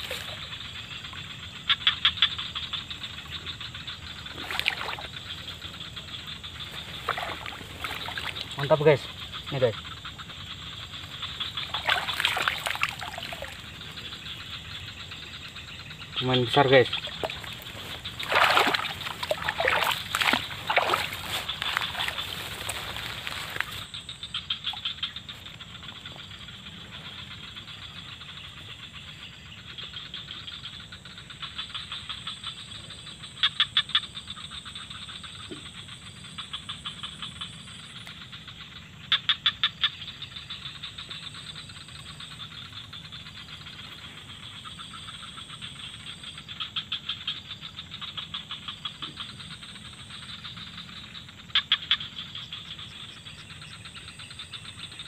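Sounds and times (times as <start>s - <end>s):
high chirring of forest wildlife: 0.0s - 55.0s
rapid pulsed animal calls: 0.0s - 55.0s.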